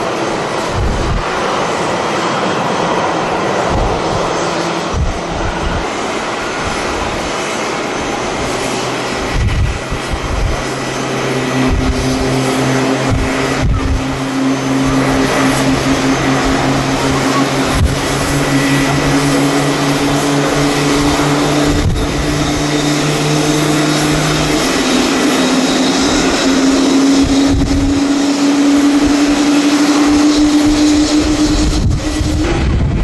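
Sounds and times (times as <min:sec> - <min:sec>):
jet engine noise: 0:00.0 - 0:33.0
wind buffeting microphone: 0:00.0 - 0:33.0.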